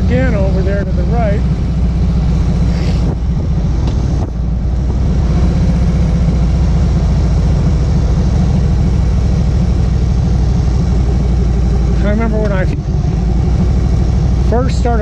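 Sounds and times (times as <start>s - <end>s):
motorcycle engine and exhaust: 0.0s - 15.0s
wind and road rush: 0.0s - 15.0s.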